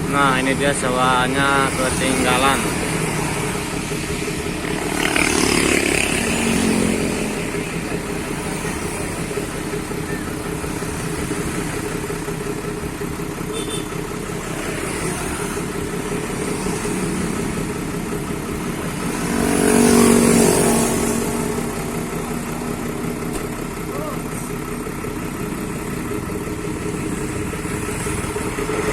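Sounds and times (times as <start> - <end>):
bus engine running: 0.0 - 28.9.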